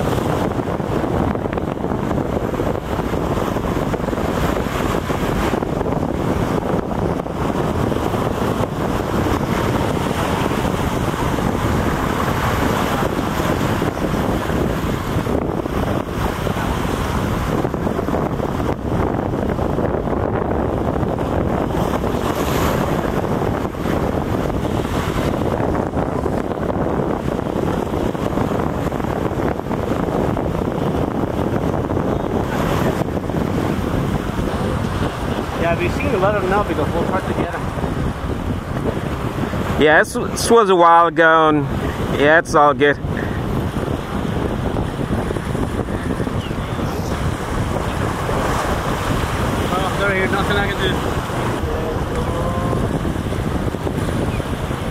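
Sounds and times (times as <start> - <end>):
waves rushing: 0.0 - 54.9
wind buffeting microphone: 0.0 - 54.9.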